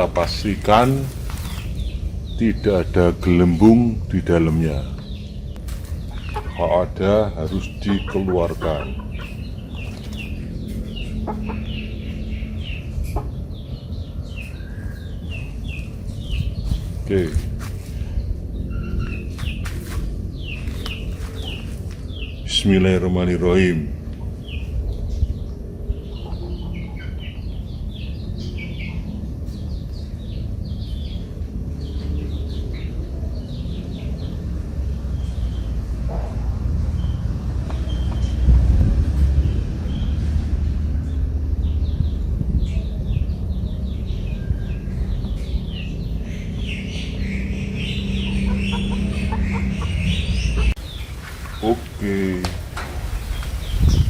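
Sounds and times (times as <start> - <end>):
chickens peeping: 0.0 - 38.6, 41.0 - 54.0
small birds chirping: 0.0 - 54.0
steady low rumble: 0.0 - 54.0.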